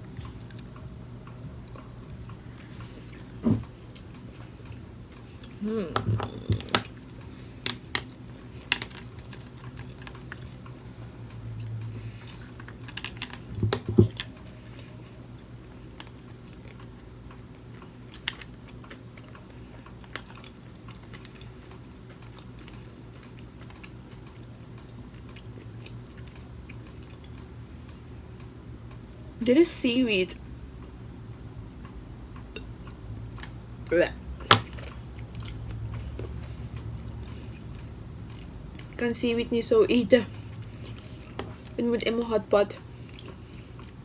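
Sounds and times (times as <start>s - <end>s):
steady low hum: 0.0s - 44.0s
chewing sushi: 0.1s - 29.0s, 34.5s - 39.0s, 40.4s - 41.8s, 42.8s - 44.0s.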